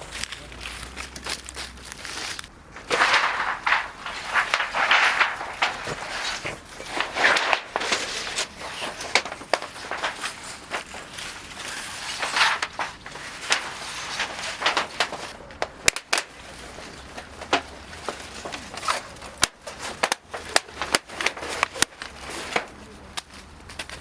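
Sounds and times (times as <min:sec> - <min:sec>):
faint rustling: 0:00.0 - 0:24.0.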